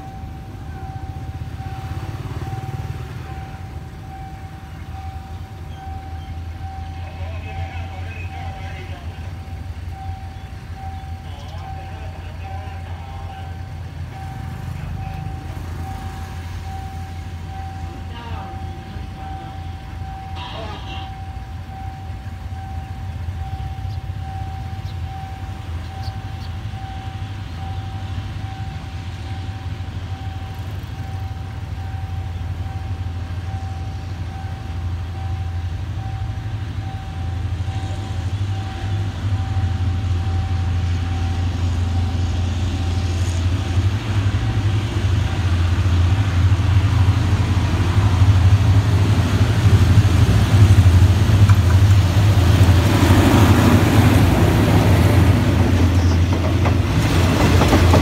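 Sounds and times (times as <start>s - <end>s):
level crossing warning tone: 0.0s - 58.0s
locomotive engine drone: 0.0s - 58.0s.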